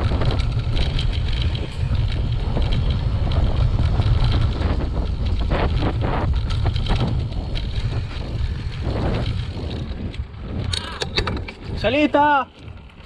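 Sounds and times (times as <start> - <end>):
bike rattling over bumps: 0.0 - 13.0
wind rumbling on microphone: 0.0 - 13.0.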